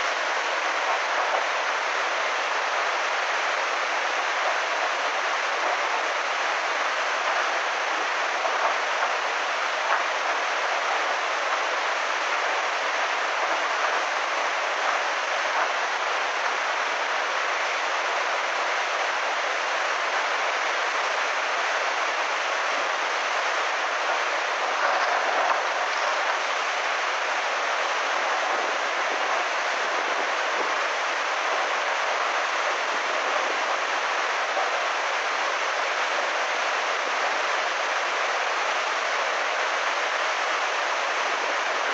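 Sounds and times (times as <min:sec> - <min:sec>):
torrent of water rushing: 0:00.0 - 0:41.9.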